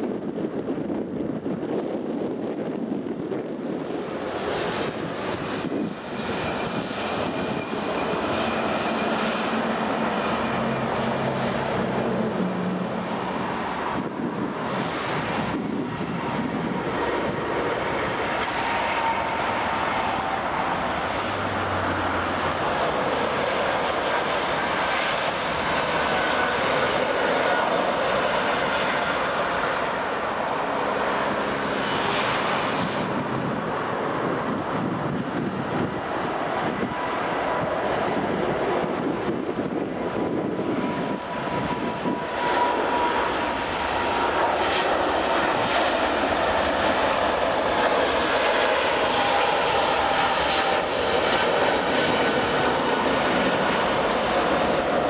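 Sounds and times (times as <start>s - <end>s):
jet airliner engines rumbling: 0.0s - 55.0s.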